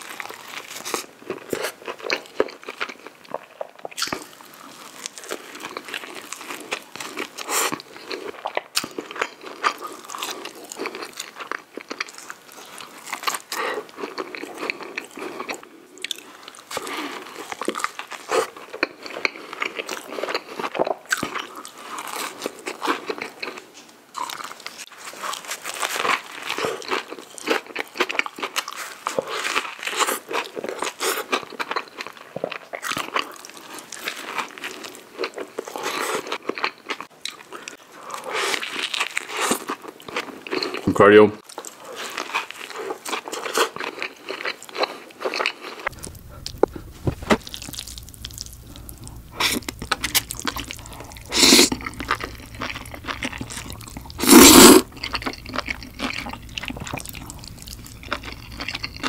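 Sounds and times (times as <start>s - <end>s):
man chewing and crunching food: 0.0s - 59.0s.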